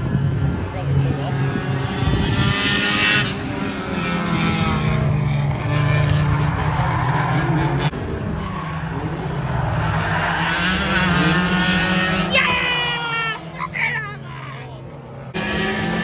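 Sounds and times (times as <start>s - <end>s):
race car engines revving: 0.0s - 16.0s
tyres skidding on tarmac: 2.8s - 16.0s.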